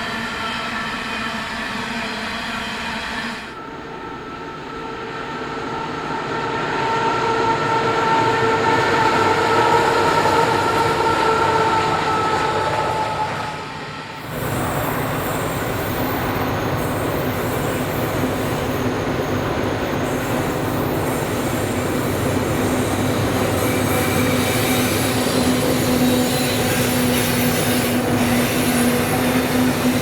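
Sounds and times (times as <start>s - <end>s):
freight train running: 0.0s - 30.0s.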